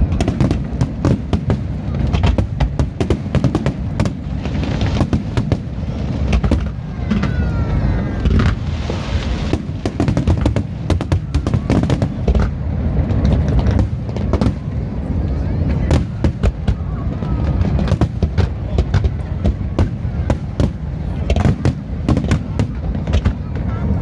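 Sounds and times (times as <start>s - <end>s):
deep rumble: 0.0s - 24.0s
fireworks bangs and crackles: 0.0s - 24.0s.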